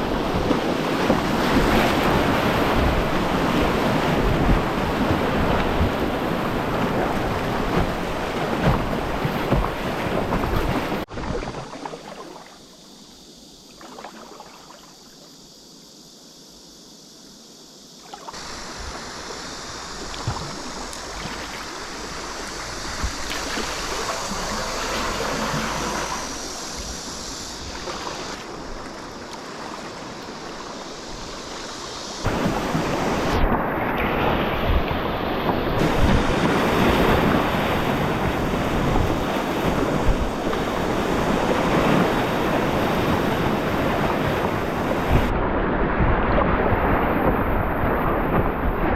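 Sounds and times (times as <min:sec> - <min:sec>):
wind noise on microphone: 0:00.0 - 0:11.7, 0:18.4 - 0:29.2, 0:30.4 - 0:48.9
river water rushing and splashing: 0:00.0 - 0:13.0, 0:18.1 - 0:45.4.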